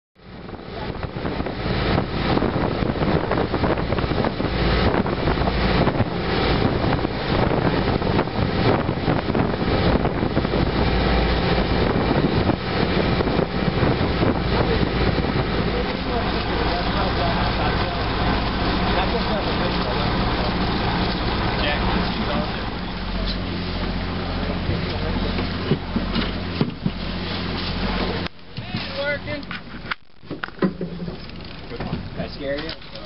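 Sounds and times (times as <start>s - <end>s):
wind buffeting microphone: 0.2s - 32.8s
steady low rumble: 0.2s - 33.0s.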